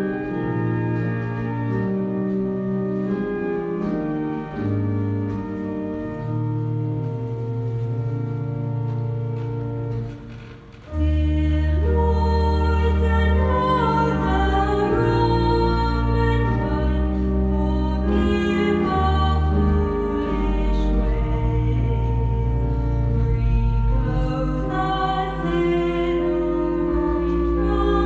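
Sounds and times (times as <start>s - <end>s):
church organ playing: 0.0s - 28.0s.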